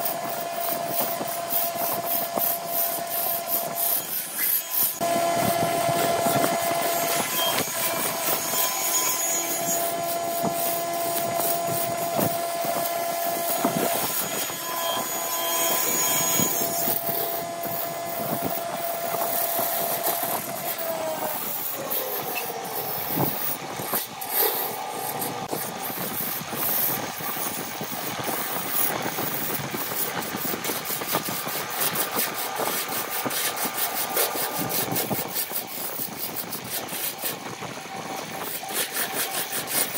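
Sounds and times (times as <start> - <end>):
chisel scraping spinning wood: 0.0 - 39.9
wood lathe motor whine: 0.0 - 39.9.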